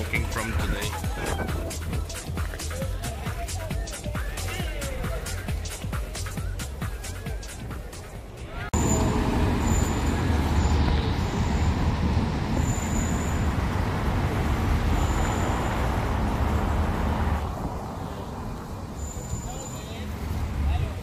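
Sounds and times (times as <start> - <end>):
low rumble of passing vehicles: 0.0 - 21.0.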